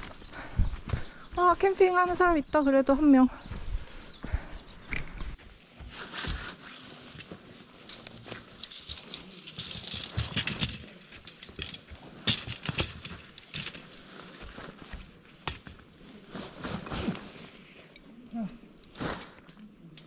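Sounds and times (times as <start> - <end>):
camping gear rustling and rattling: 0.0 - 2.1, 3.4 - 20.0.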